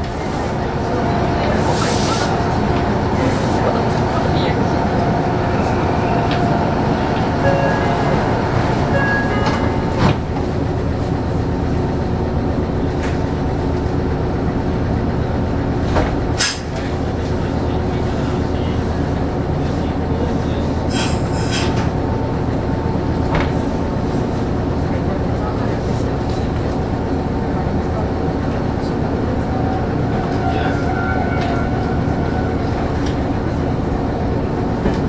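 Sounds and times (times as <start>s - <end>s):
electric train equipment hum: 0.0s - 20.8s, 21.8s - 35.0s.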